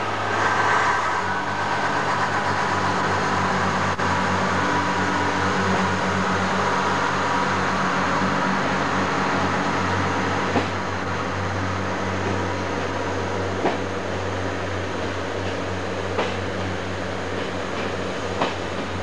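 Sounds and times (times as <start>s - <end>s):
diesel train drone: 0.0s - 19.0s.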